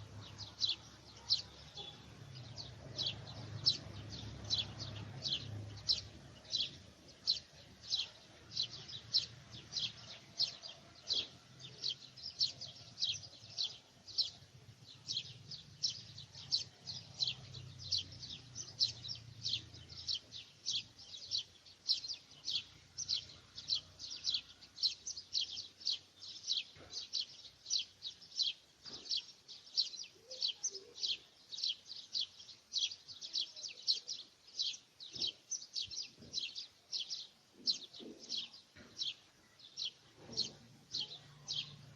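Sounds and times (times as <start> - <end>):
bird chirping: 0.0 - 41.9.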